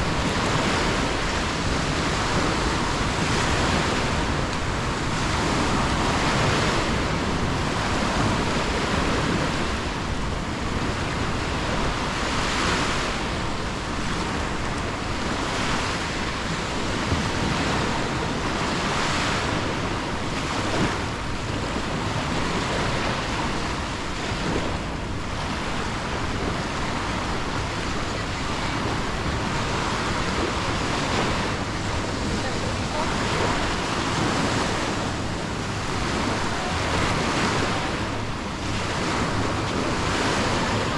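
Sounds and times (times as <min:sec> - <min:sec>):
surf washing ashore: 0:00.0 - 0:40.9
wind on microphone: 0:00.0 - 0:40.9.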